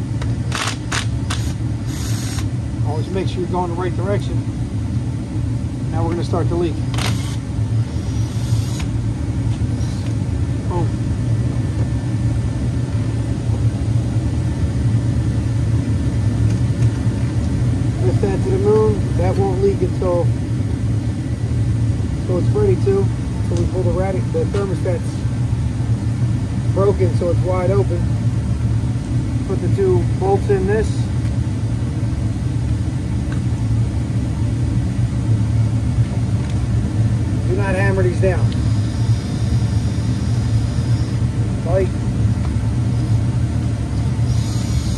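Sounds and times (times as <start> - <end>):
low mechanical rumble: 0.0 - 44.9.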